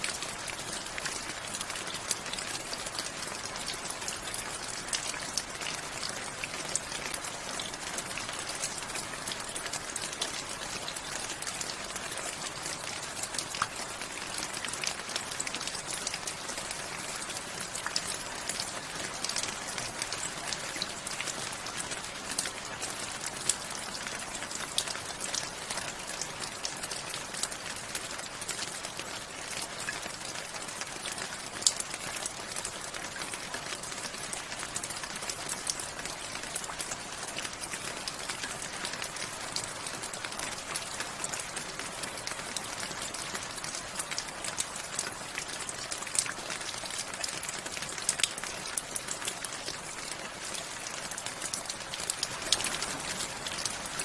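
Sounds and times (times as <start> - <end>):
rain drops tapping on a surface: 0.0 - 54.0.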